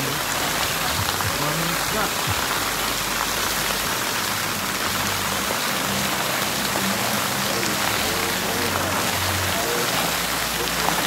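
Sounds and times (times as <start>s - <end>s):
running splashing water: 0.0s - 11.0s.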